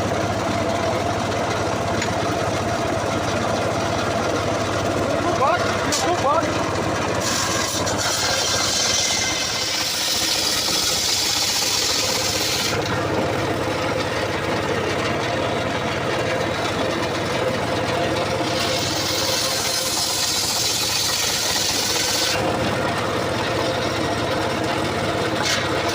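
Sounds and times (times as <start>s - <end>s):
engine-driven saw cutting wood: 0.0s - 25.9s.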